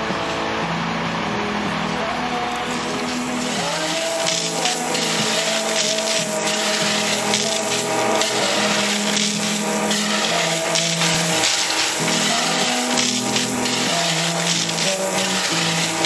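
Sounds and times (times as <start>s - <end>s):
shovel scraping gravel: 2.7s - 16.0s.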